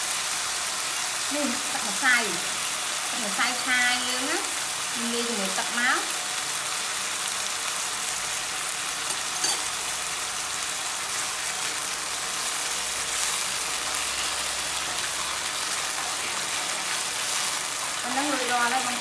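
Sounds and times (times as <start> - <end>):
meat sizzling in a wok: 0.0 - 19.0.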